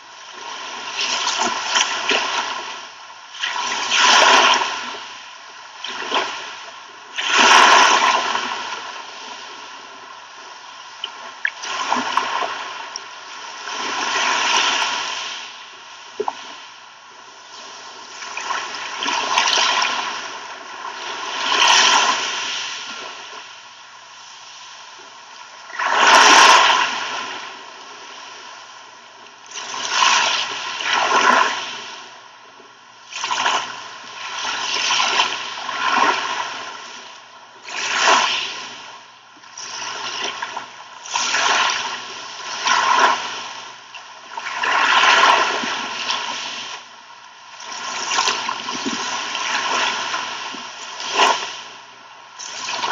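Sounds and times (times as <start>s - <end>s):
sea waves breaking on shore: 0.0s - 28.8s, 29.5s - 32.2s, 33.0s - 52.9s.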